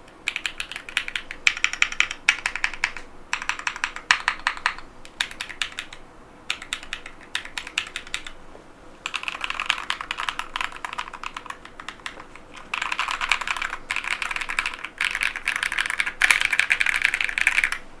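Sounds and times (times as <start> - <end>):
mechanical keyboard typing: 0.2 - 8.4, 9.0 - 17.8.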